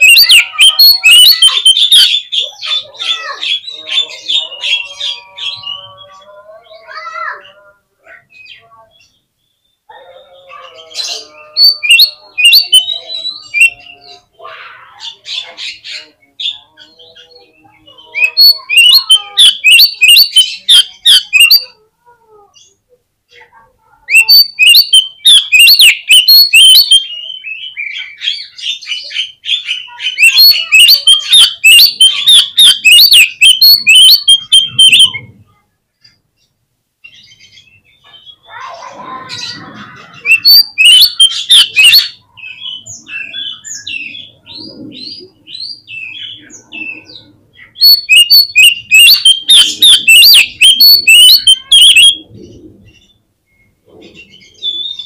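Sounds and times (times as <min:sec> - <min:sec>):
bird chattering song: 0:00.0 - 0:14.3, 0:14.9 - 0:21.8, 0:24.1 - 0:35.3, 0:39.3 - 0:55.0.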